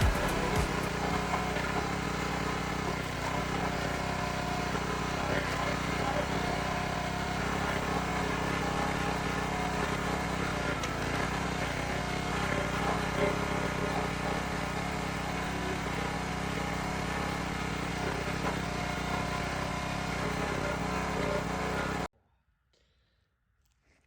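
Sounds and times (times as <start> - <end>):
steady motor drone: 0.0 - 22.1.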